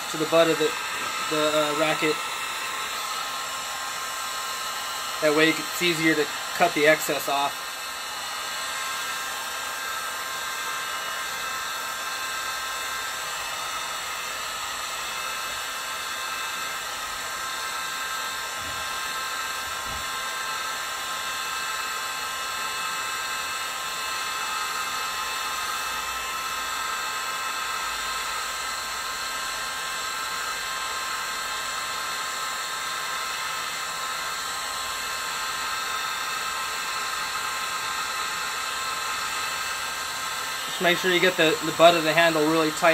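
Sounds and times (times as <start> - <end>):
heat gun blower hissing: 0.0 - 42.9.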